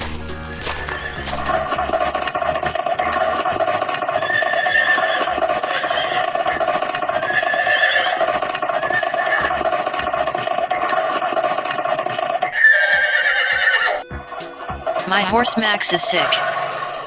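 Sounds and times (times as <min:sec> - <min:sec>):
horse neighing: 0:01.0 - 0:15.1.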